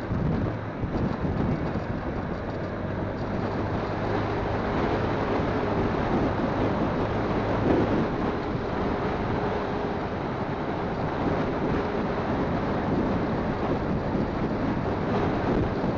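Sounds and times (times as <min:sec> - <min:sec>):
motorcycle engine hum: 0:00.0 - 0:15.9
wind buffeting microphone: 0:00.0 - 0:15.9.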